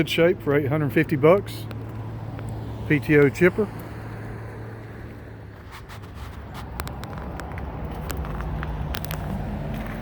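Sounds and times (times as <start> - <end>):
car engine rumble: 0.0 - 10.0.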